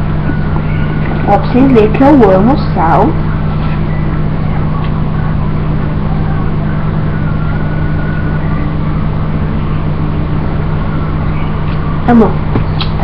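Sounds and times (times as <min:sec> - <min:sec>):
low hum of a motor: 0:00.0 - 0:13.0.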